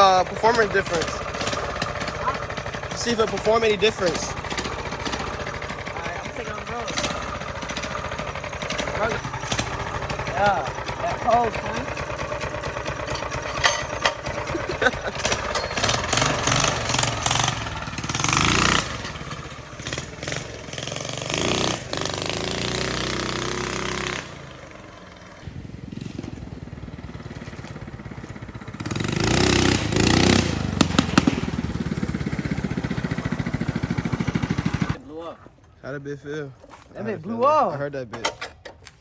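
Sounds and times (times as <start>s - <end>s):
minibike engine revving: 0.0s - 35.6s.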